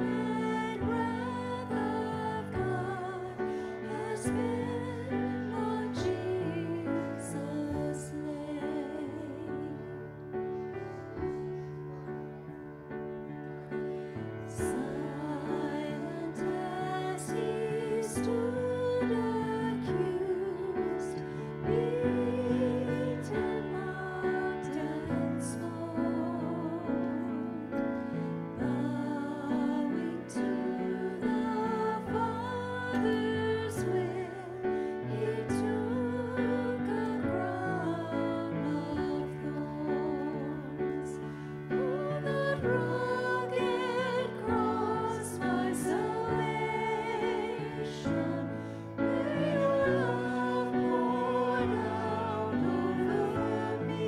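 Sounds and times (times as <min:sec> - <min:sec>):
grand piano accompaniment: 0:00.0 - 0:54.0
women singing a hymn: 0:00.0 - 0:54.0.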